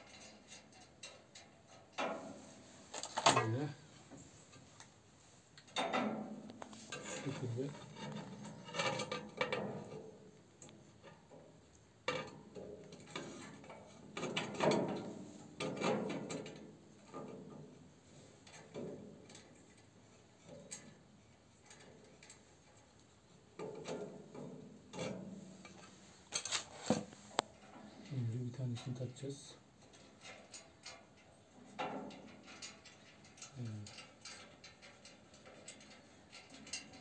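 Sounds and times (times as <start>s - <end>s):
metal stove parts clicking and scraping: 0.0s - 37.0s.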